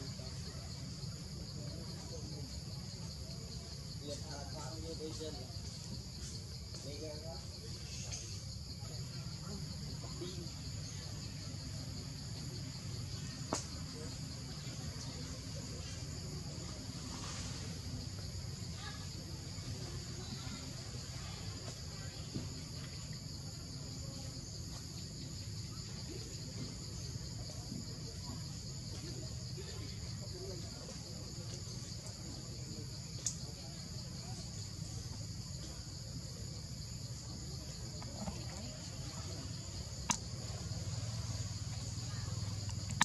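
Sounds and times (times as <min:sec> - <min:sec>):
insect chorus buzzing: 0:00.0 - 0:43.0.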